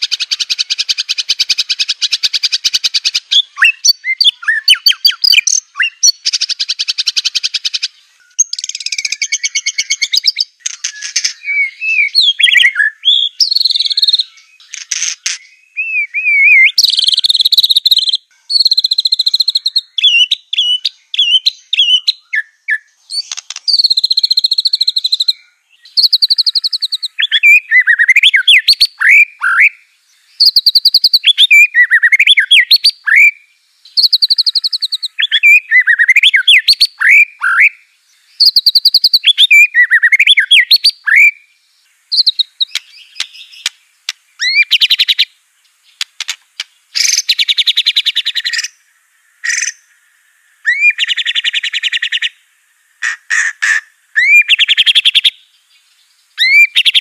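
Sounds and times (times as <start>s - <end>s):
bird singing buzzy rattles and whistles: 0.0s - 41.4s, 42.1s - 48.8s, 49.4s - 49.9s, 53.0s - 57.0s.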